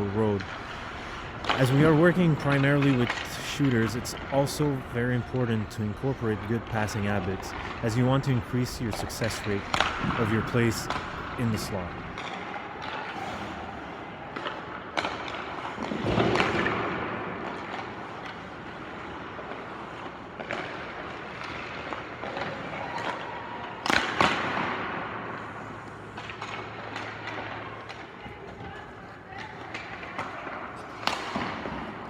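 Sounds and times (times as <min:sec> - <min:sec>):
skates scraping ice: 0:00.3 - 0:32.0
sticks striking pucks: 0:00.4 - 0:06.0, 0:06.6 - 0:13.6, 0:14.3 - 0:32.0.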